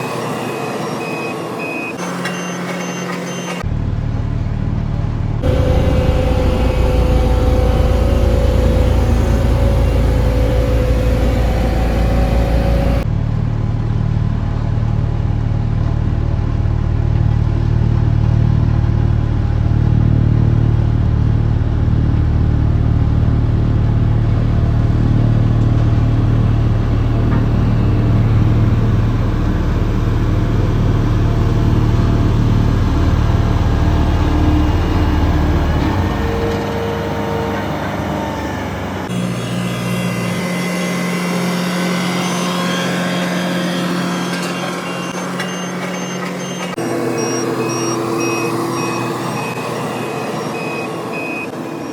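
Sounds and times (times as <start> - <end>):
diesel engine running: 3.6 - 51.9.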